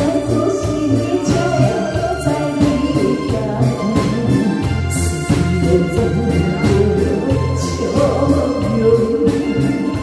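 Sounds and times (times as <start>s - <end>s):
keyboard accompaniment with beat: 0.0s - 10.0s
woman singing into a microphone: 0.0s - 10.0s.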